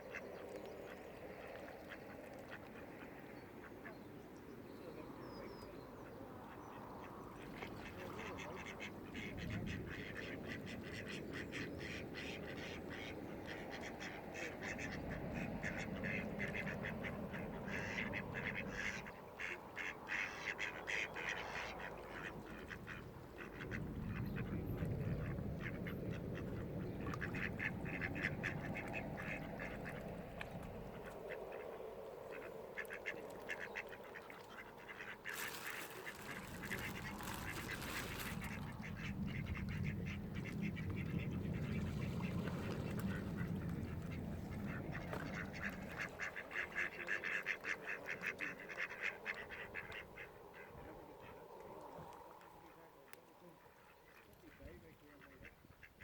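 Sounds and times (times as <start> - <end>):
ducks quacking: 6.5 - 56.0.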